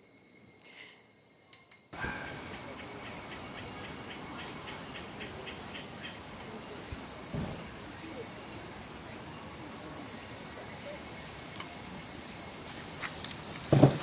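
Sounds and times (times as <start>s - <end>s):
insects droning: 0.0s - 14.0s
pulsed insect call: 0.0s - 14.0s.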